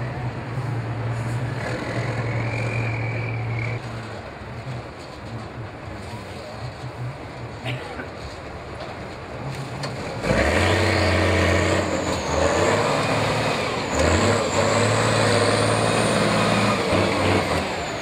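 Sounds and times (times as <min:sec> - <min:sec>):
truck diesel engine under load: 0:00.0 - 0:18.0.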